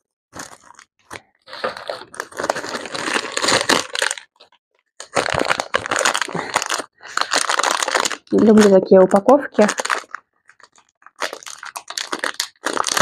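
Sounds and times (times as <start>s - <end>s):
plastic packaging crinkling: 0.4s - 13.0s.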